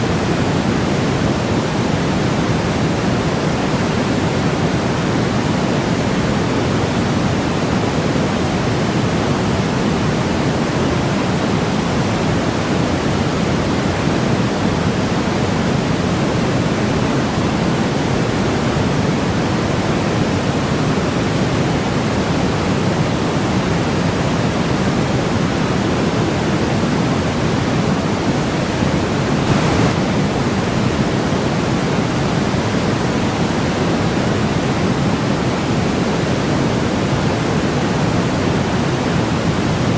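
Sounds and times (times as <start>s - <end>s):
steady low hiss noise: 0.0s - 39.9s.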